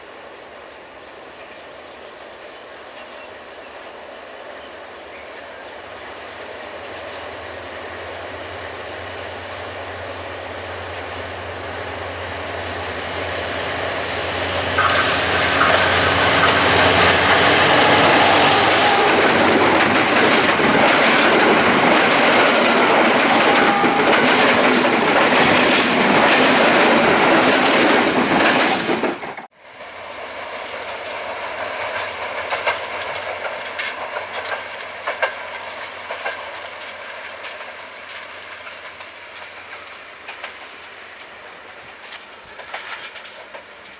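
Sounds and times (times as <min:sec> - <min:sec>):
locomotive engine drone: 0:00.0 - 0:28.7, 0:29.5 - 0:43.9
train wheels clattering on rail joints: 0:06.2 - 0:43.9.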